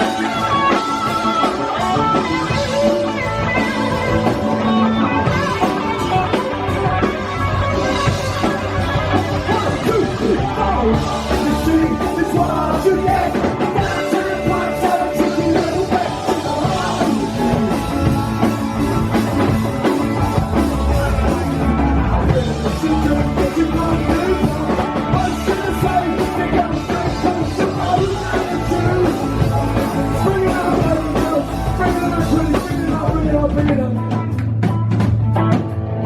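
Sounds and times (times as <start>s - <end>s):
person singing: 0.0s - 34.3s
drums: 0.0s - 36.0s
live rock band playing: 0.0s - 36.0s.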